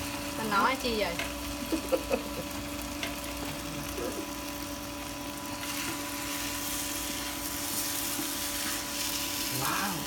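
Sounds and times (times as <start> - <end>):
faint frying hiss: 0.0 - 10.0
induction cooktop humming: 0.0 - 10.0.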